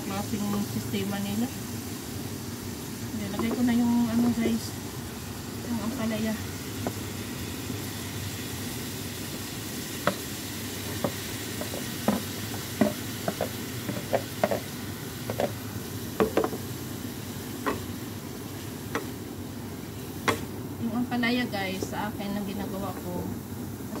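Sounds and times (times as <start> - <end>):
sizzling pan: 0.0 - 24.0.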